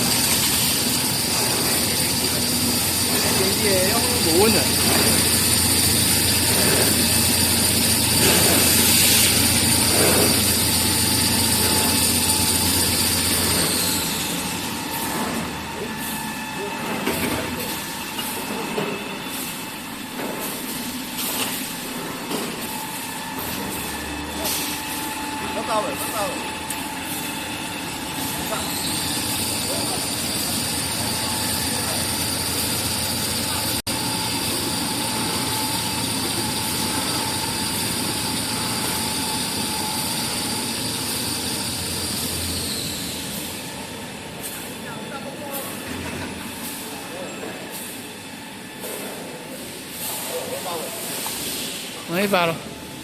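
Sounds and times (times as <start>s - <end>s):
paper converting machine running: 0.0s - 47.6s.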